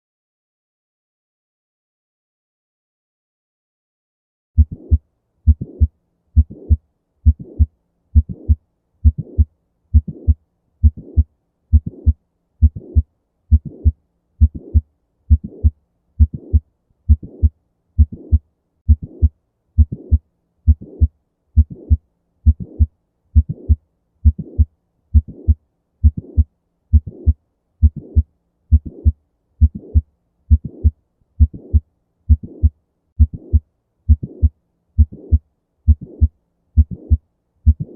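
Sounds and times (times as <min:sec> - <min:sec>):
heart murmur: 0:04.6 - 0:37.9
heartbeat thuds: 0:04.6 - 0:37.9.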